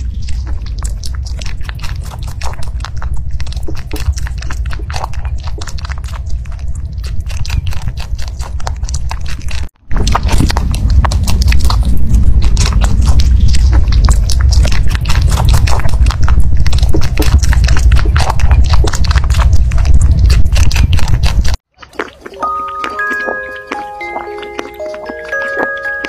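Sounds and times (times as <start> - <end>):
low rumble: 0.0 - 21.6
rabbit chewing fruit: 0.0 - 26.0.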